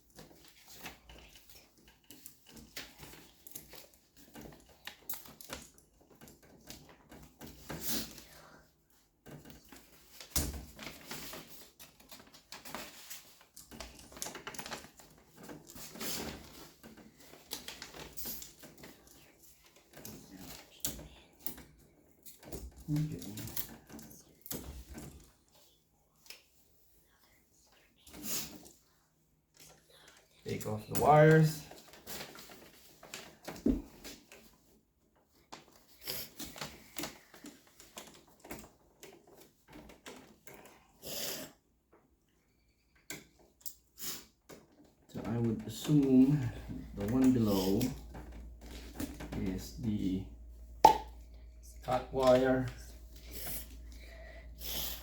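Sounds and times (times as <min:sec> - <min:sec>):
wire handling clicks and rustling: 0:00.0 - 0:08.2, 0:08.9 - 0:26.6, 0:29.5 - 0:40.8, 0:44.5 - 0:55.0.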